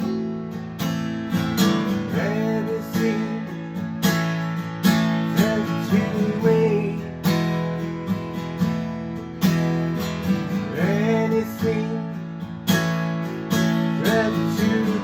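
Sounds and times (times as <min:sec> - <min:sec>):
acoustic guitar strumming: 0:00.0 - 0:15.0
sliding guitar melody: 0:00.0 - 0:15.0.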